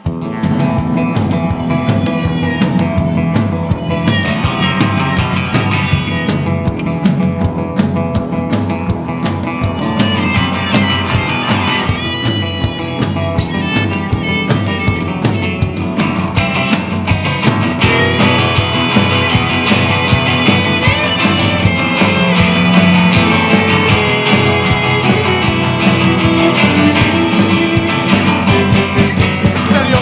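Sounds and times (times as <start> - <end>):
rock band playing: 0.0 - 30.0
steady drum beat: 0.0 - 30.0.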